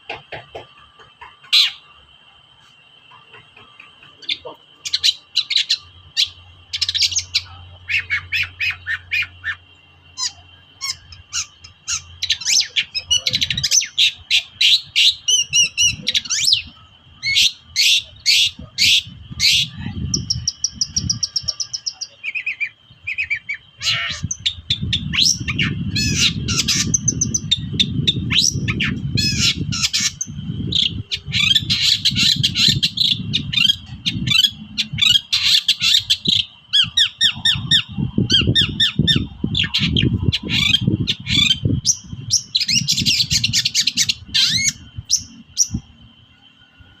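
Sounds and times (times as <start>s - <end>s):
shrike squawking calls: 3.0s - 45.7s.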